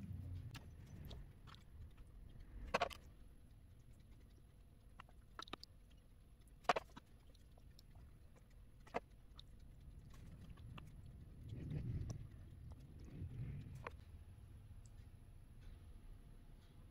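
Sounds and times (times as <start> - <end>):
wet squelches: 0.0 - 14.1.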